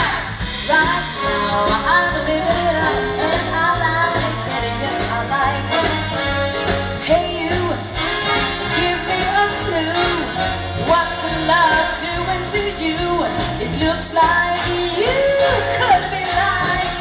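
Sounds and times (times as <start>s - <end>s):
woman singing: 0.0s - 6.2s, 7.0s - 8.1s, 8.7s - 17.0s
big band playing: 0.0s - 17.0s.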